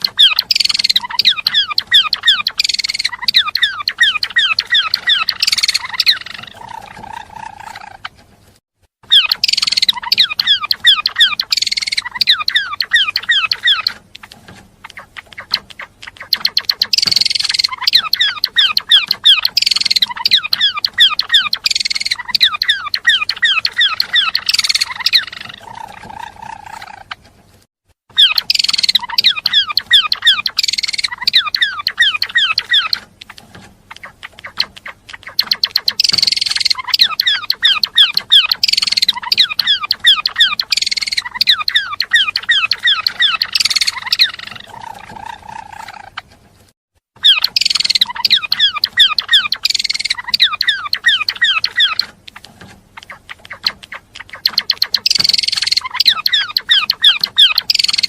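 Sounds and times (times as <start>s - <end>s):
low bird trill: 0.0s - 8.1s, 9.0s - 14.0s, 15.0s - 27.1s, 28.1s - 33.1s, 35.2s - 46.2s, 47.2s - 52.1s, 53.1s - 58.0s
songbird chattering: 0.0s - 8.2s, 9.0s - 27.2s, 28.1s - 46.3s, 47.2s - 58.0s.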